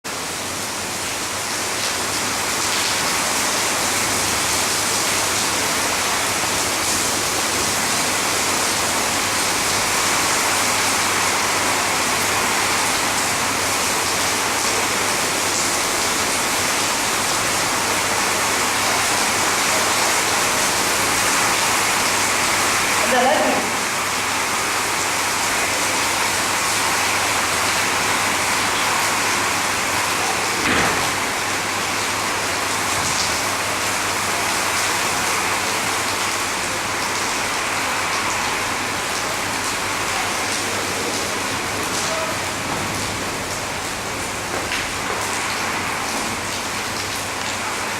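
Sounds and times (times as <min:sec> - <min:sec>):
heavy rain falling: 0:00.1 - 0:47.9.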